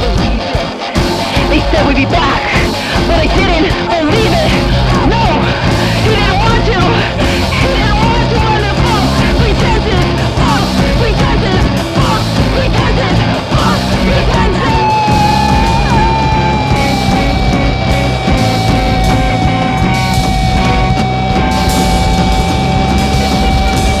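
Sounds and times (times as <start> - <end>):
distorted rock music: 0.0 - 24.0.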